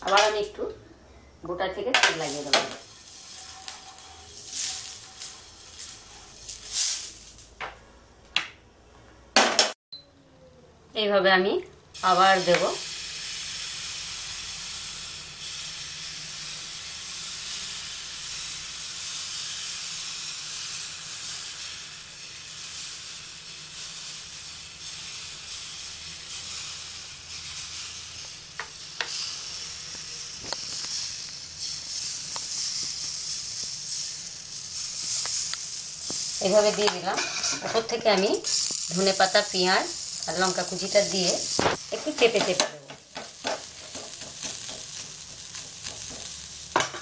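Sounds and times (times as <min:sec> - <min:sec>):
batter sizzling on griddle: 0:01.8 - 0:07.6, 0:11.9 - 0:47.0.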